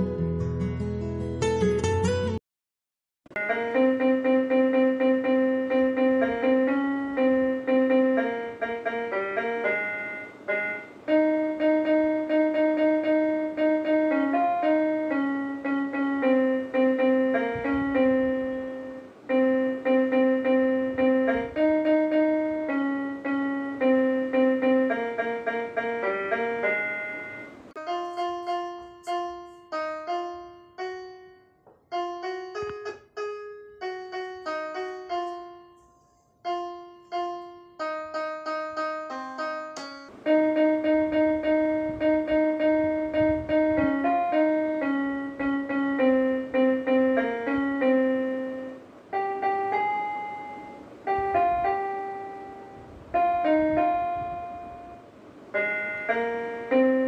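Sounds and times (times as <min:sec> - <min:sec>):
slow piano melody: 0:00.0 - 0:02.4, 0:03.3 - 0:57.0.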